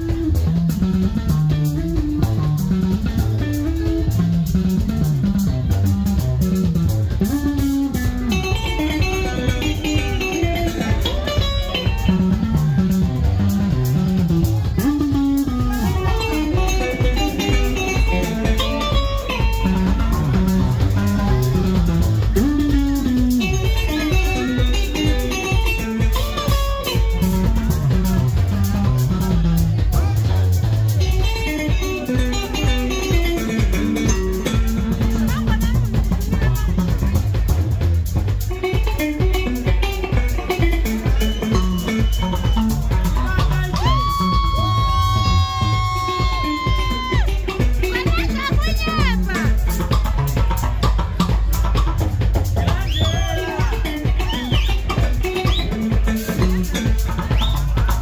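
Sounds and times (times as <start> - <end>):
electric bass line: 0.0 - 58.0
steady beat: 0.0 - 58.0.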